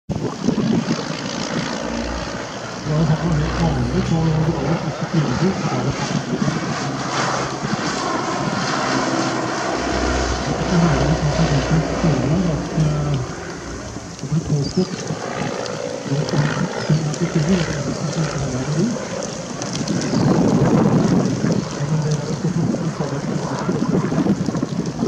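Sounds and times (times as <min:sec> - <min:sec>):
propeller plane droning overhead: 0:00.1 - 0:25.0.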